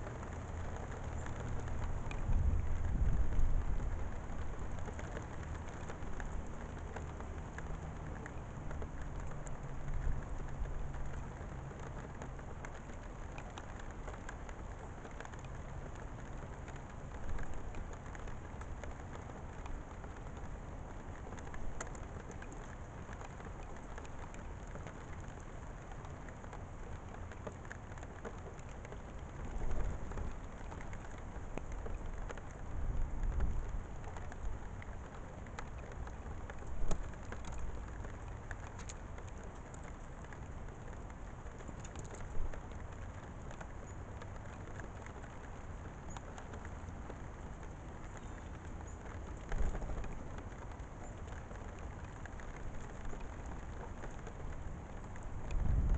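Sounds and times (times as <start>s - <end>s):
raindrops ticking close by: 0.0s - 55.9s
steady rain: 0.0s - 55.9s.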